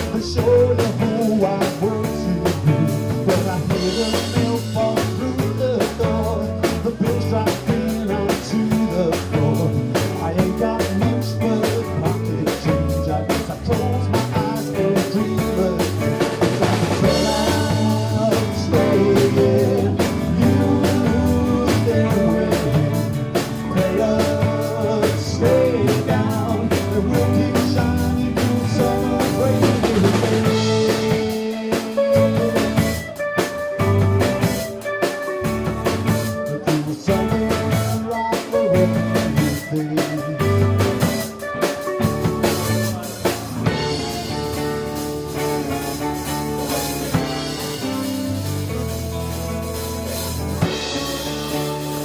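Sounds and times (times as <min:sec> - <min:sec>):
person singing: 0:00.0 - 0:35.2, 0:36.1 - 0:44.7, 0:50.0 - 0:52.0
drum kit: 0:00.0 - 0:52.0
electric guitar chords: 0:00.0 - 0:52.0
live rock band playing: 0:00.0 - 0:52.0.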